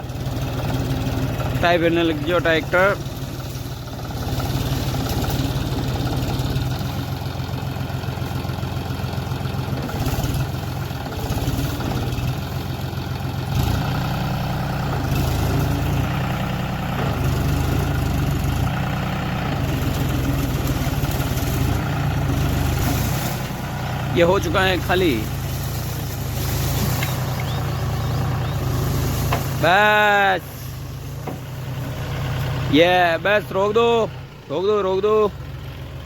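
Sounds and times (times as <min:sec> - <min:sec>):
tractor diesel engine under load: 0:00.0 - 0:36.0.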